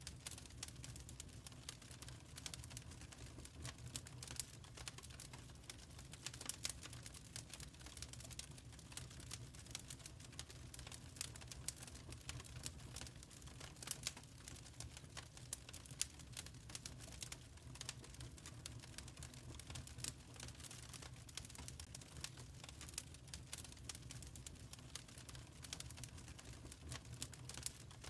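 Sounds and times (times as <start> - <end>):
low rumble of burning fire: 0.0 - 28.0
wood fire crackling: 0.0 - 28.0.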